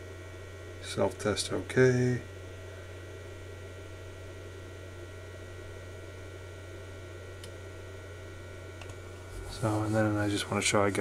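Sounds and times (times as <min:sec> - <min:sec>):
cooling fan humming: 0:00.0 - 0:11.0.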